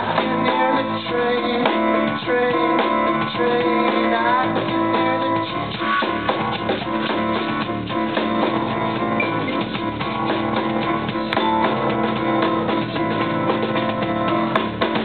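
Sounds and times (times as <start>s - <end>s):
drum kit: 0.0s - 15.0s.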